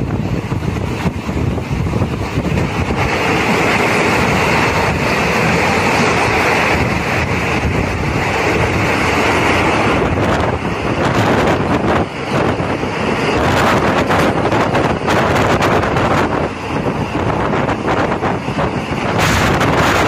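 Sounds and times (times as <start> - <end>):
train rushing through tunnel: 0.0 - 20.0
wind buffeting microphone: 0.0 - 20.0.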